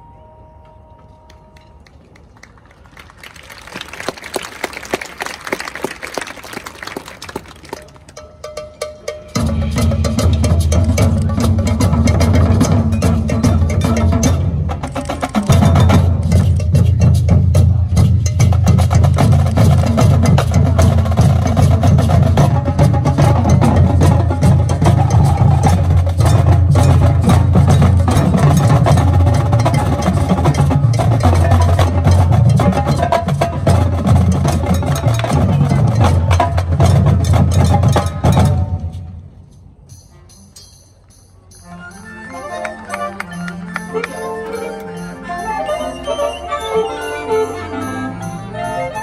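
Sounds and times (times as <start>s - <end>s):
marching band playing: 3.2s - 40.6s, 41.5s - 49.0s
percussion hits: 4.8s - 45.9s.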